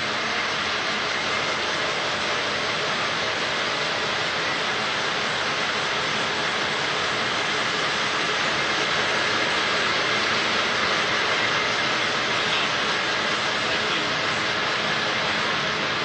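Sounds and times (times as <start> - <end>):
machinery whirring hiss: 0.0 - 16.0.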